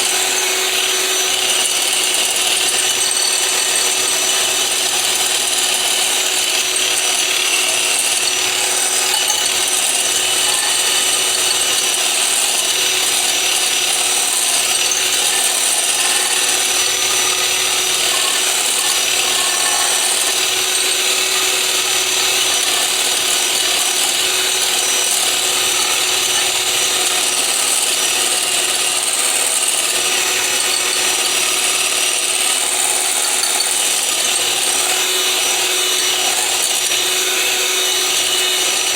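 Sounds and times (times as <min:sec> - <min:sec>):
electric blender whining: 0:00.0 - 0:38.9.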